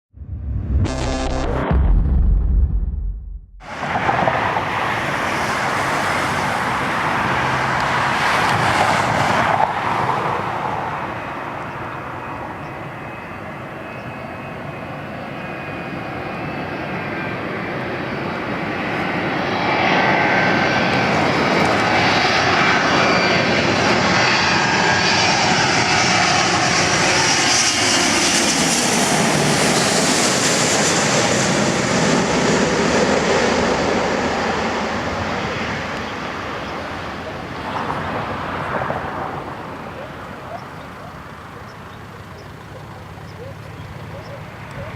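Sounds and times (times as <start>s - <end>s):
jet engine noise: 3.6s - 44.9s.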